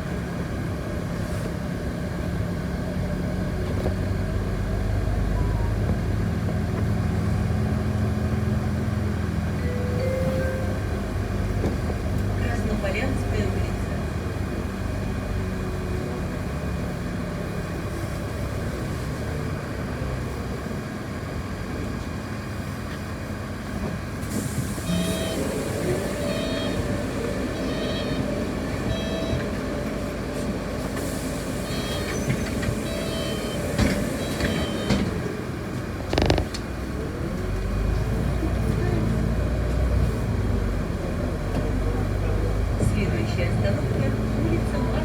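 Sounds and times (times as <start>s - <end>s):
bus drive and road rumble: 0.0s - 45.0s.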